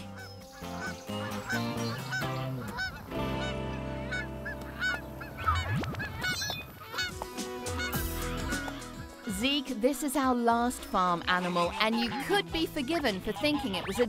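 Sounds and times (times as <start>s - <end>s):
background music: 0.0s - 14.0s
geese honking: 0.0s - 14.0s.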